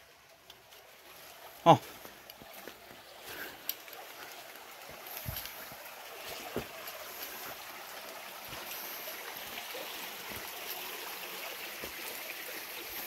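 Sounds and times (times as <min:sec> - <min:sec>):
creek running over stones: 0:00.0 - 0:13.0.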